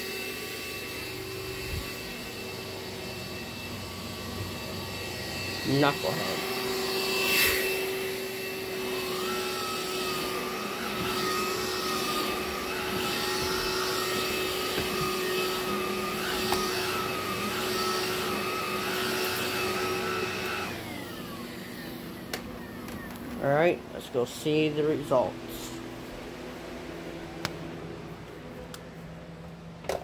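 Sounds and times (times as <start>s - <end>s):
stick vacuum motor whine: 0.0s - 29.0s.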